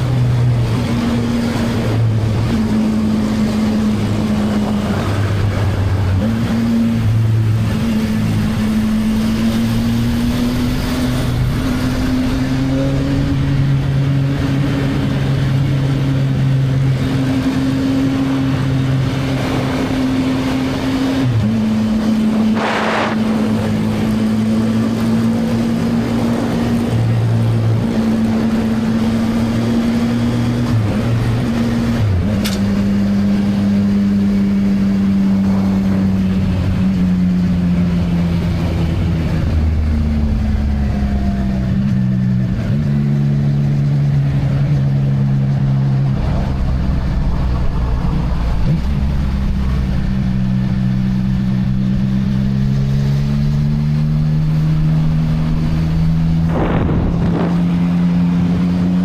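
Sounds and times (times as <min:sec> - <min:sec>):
motorcycle engine running: 0:00.0 - 0:29.5, 0:30.3 - 0:59.0
wind noise: 0:00.0 - 0:42.8, 0:54.4 - 0:59.0.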